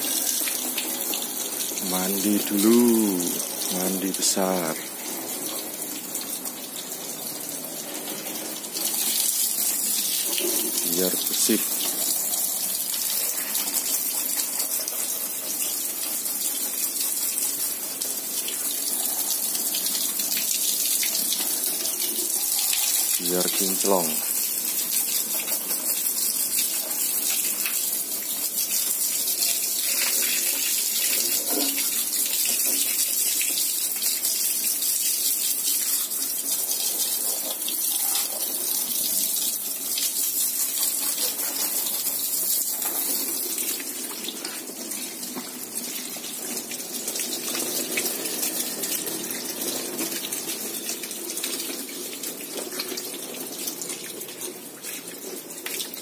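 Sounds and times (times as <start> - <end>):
hose water splashing: 0.0 - 56.0.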